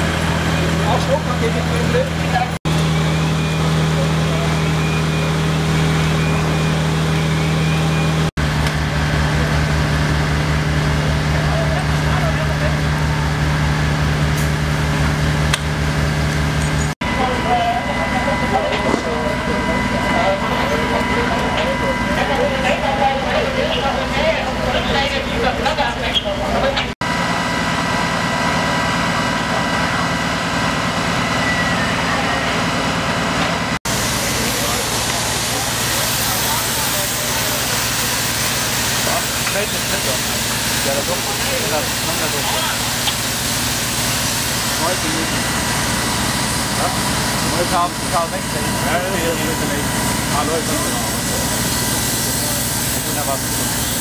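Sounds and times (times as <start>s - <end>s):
diesel engines humming: 0.0s - 54.0s
steady high whine: 0.0s - 54.0s.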